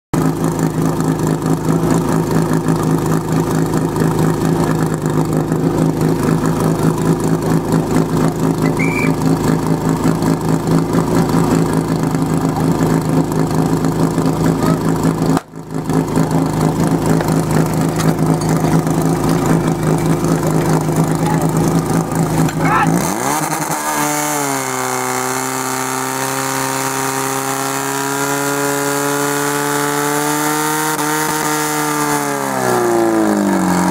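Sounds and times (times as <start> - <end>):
pump engine running: 0.2 - 30.2, 32.0 - 33.9.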